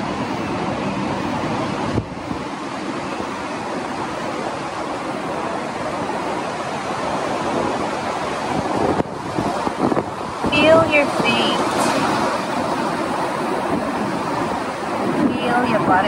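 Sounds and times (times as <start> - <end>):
wind through tree leaves: 0.0 - 16.0.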